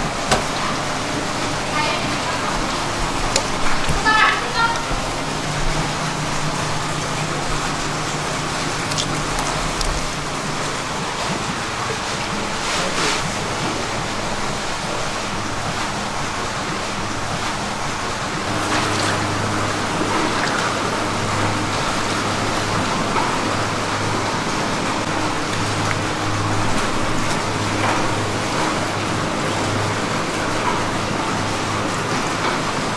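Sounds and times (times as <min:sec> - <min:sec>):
running water: 0:00.0 - 0:32.9.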